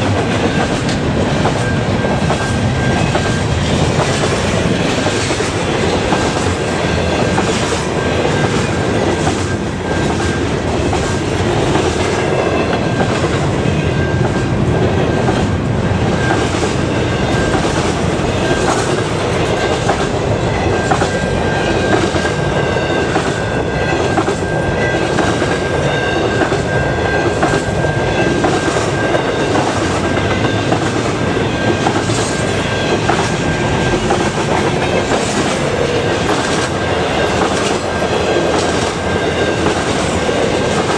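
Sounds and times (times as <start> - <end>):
clickety-clack over rail joints: 0.0 - 40.9
freight train wheels rumbling: 0.0 - 40.9.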